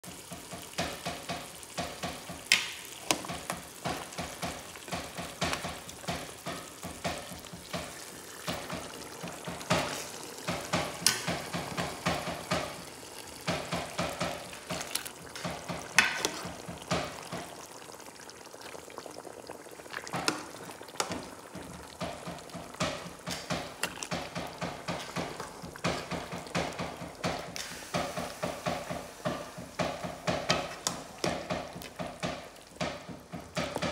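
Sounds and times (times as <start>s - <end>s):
pot bubbling and spattering: 0.0s - 33.9s.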